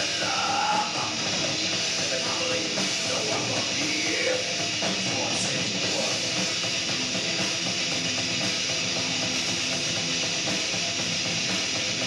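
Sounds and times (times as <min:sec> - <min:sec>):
electric guitars: 0:00.0 - 0:12.0
rock band playing live: 0:00.0 - 0:12.0.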